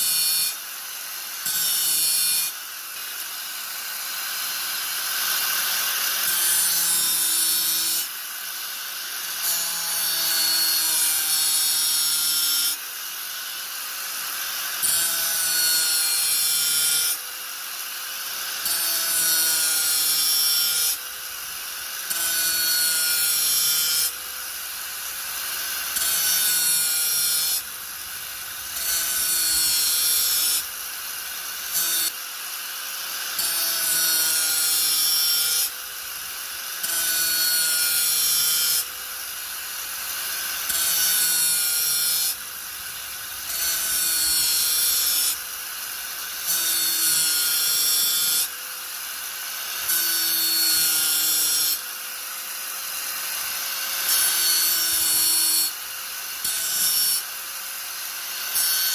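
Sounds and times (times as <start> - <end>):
angle grinder grinding: 0.0 - 51.8.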